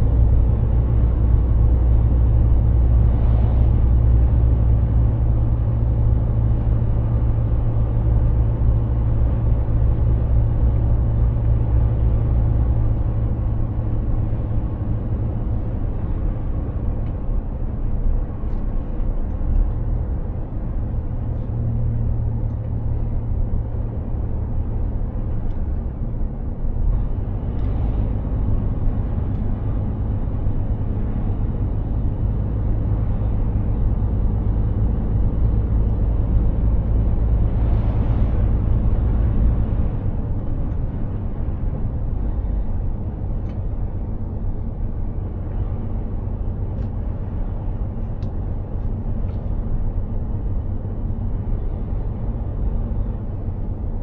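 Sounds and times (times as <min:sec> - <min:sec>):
road and tyre noise: 0:00.0 - 0:54.0
truck engine drone: 0:00.0 - 0:54.0.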